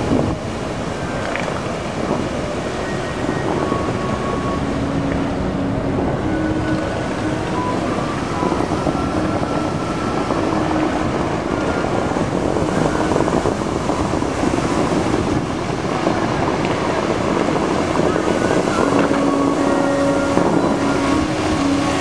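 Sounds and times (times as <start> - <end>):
fountain water jets rushing: 0.0 - 22.0
wind buffeting microphone: 0.0 - 22.0.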